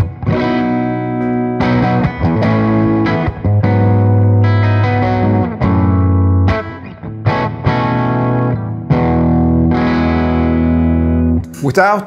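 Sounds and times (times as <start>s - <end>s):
overdriven electric guitar chords: 0.0s - 11.6s.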